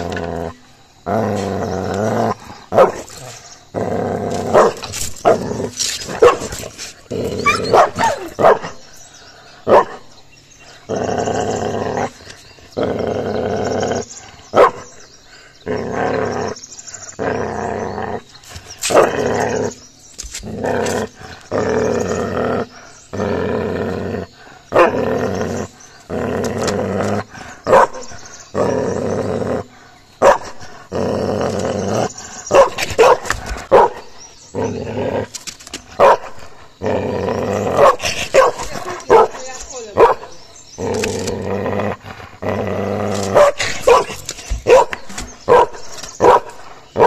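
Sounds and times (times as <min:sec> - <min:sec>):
puppy growling: 0:00.0 - 0:08.8, 0:10.7 - 0:14.9, 0:15.6 - 0:35.7, 0:36.4 - 0:46.7.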